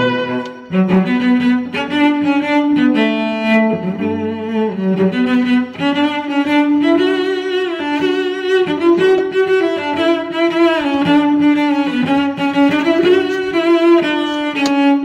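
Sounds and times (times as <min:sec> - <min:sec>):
violin and cello music: 0:00.0 - 0:15.0.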